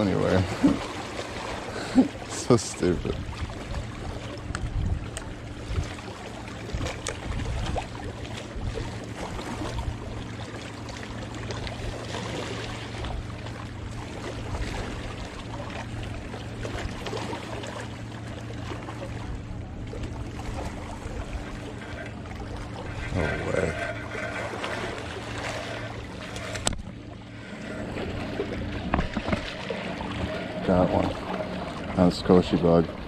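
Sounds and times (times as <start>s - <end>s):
small waves lapping against rocks: 0.0s - 33.0s
steady low hum: 0.0s - 33.0s.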